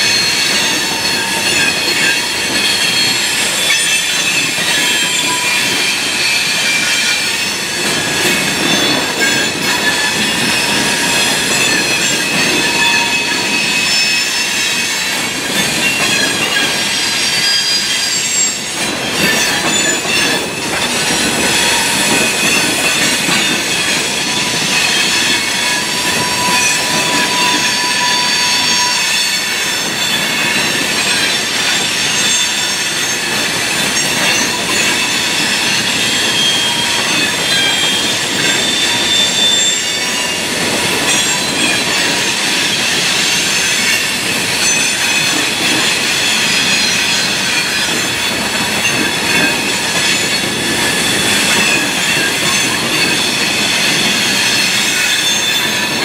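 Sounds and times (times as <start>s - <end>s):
rumble of wheels on track: 0.0s - 56.0s
train wheels squealing on rails: 0.0s - 56.0s.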